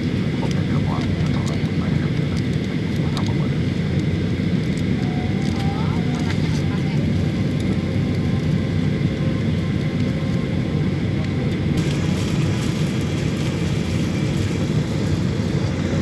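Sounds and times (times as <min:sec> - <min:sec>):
jet engines and rushing air: 0:00.0 - 0:16.0.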